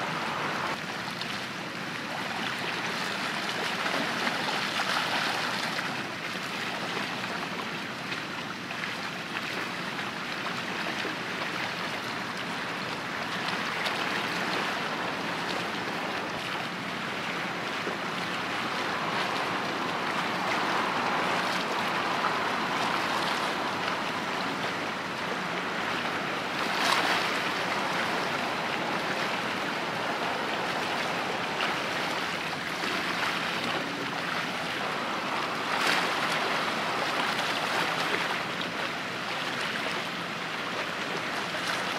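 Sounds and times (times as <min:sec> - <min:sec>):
waves washing: 0:00.0 - 0:41.9.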